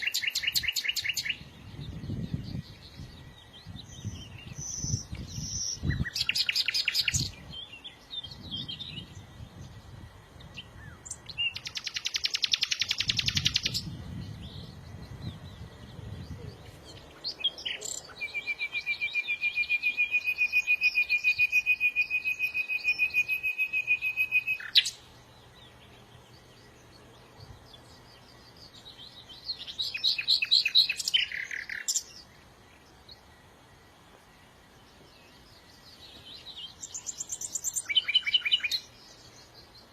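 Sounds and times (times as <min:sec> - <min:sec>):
songbird singing buzzy trills: 0:00.0 - 0:39.9.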